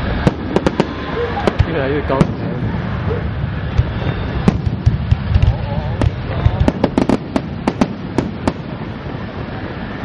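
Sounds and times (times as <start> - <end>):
fireworks bangs and crackles: 0.0 - 10.0
steady rumble: 0.0 - 10.0.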